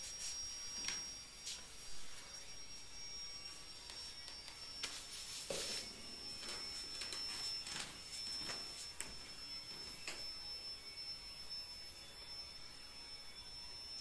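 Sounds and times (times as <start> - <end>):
steady high-pitched whine: 0.0 - 14.0.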